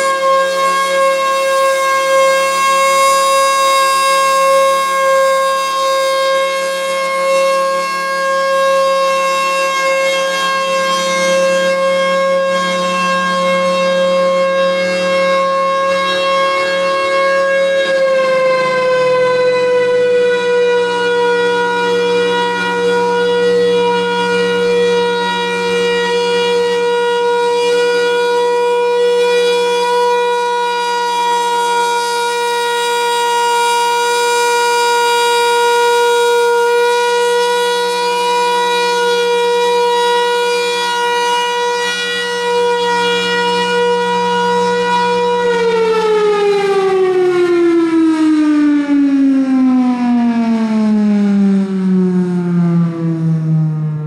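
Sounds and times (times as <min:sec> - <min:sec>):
mechanical siren wailing: 0:00.0 - 0:54.0.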